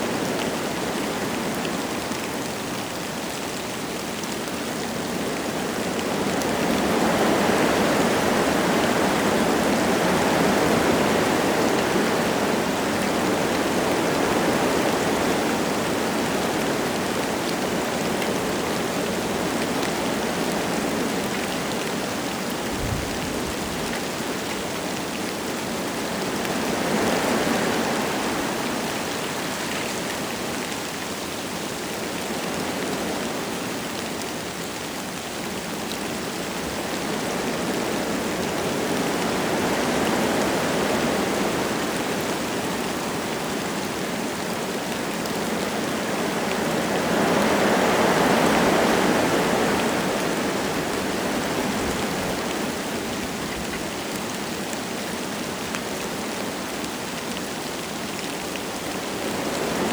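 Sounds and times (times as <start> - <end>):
light rain: 0.0 - 59.9
wind gusting through trees: 0.0 - 59.9.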